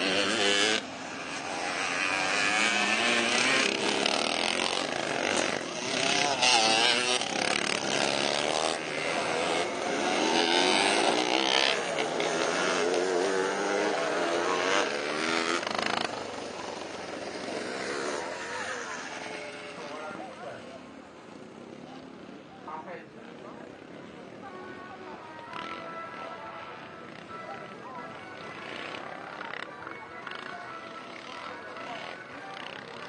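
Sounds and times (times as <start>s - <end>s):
motocross bikes revving: 0.0s - 33.0s.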